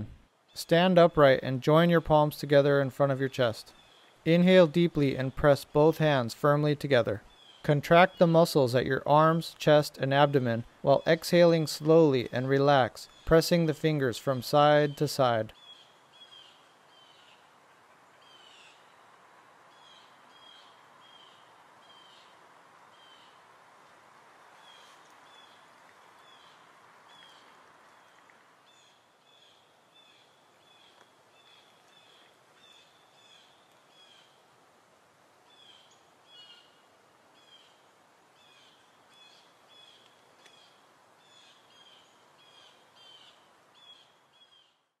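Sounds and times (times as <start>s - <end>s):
soft hiss: 0.0s - 44.9s.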